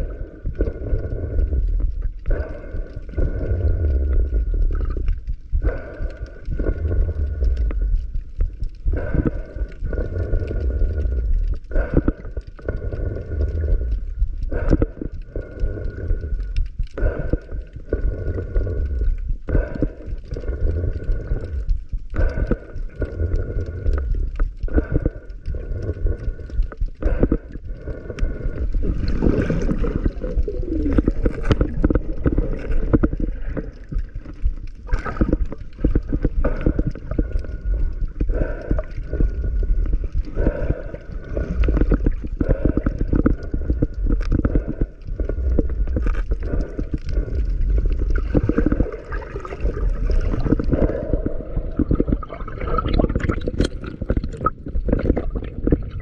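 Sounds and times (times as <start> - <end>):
gurgling bubbles: 0.0 - 56.0
muffled underwater rumble: 0.0 - 56.0.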